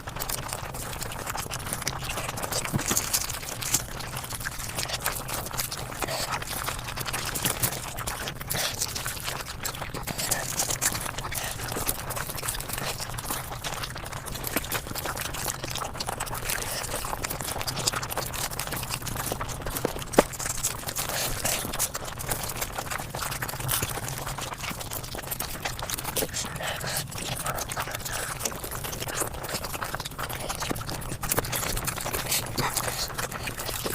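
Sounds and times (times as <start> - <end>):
rapid chewing and crunching: 0.0 - 33.9.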